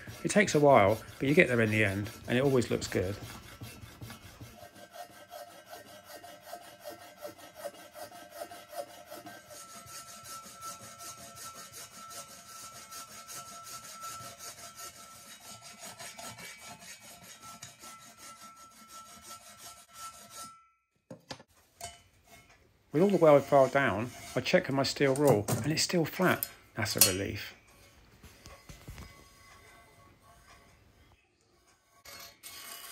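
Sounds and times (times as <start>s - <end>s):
hand file rasping on metal: 0.0s - 20.6s, 21.8s - 32.9s.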